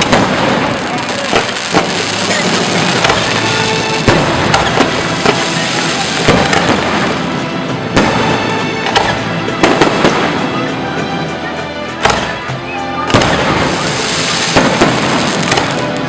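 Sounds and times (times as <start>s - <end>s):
fireworks bangs: 0.0s - 16.0s
loud music: 0.0s - 16.0s.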